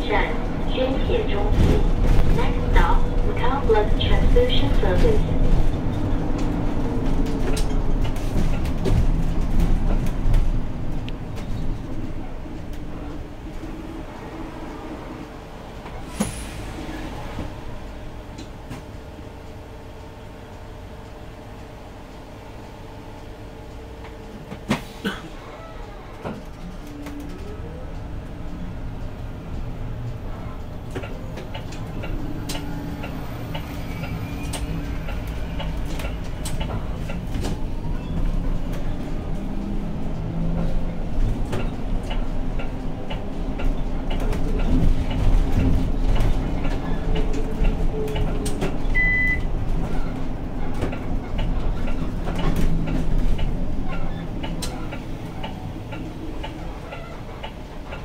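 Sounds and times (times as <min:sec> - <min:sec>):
bus drivetrain humming: 0:00.0 - 0:58.0.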